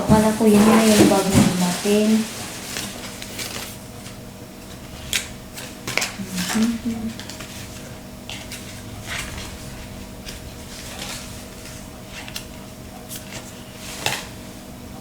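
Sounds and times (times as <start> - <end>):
packaging rustling: 0.0 - 14.7
faint steady hum: 0.0 - 15.0.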